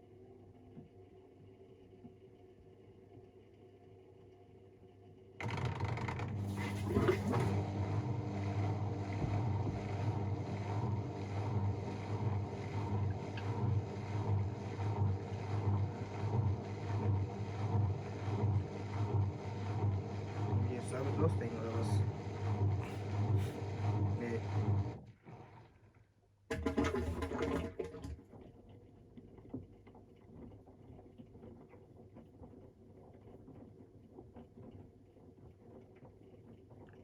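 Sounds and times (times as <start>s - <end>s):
washing machine spinning: 5.4s - 25.7s, 26.5s - 36.8s.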